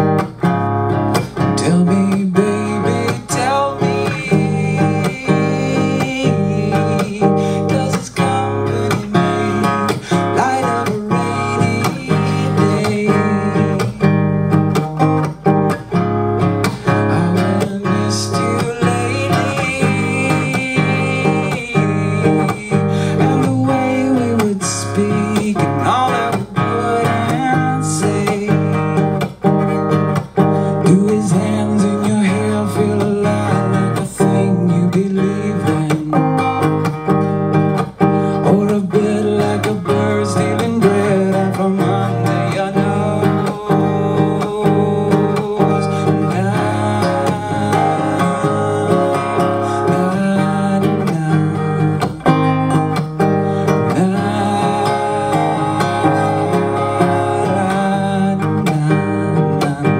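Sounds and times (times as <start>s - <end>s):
acoustic guitar: 0.0s - 59.9s
man singing softly: 1.5s - 14.3s, 16.7s - 29.5s, 30.5s - 36.6s, 38.2s - 59.9s.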